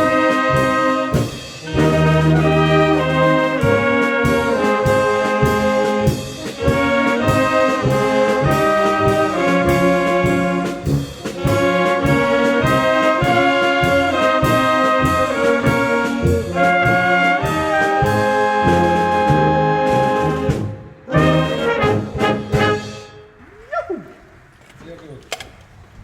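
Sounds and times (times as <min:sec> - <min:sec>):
brass band playing a polka: 0:00.0 - 0:23.4.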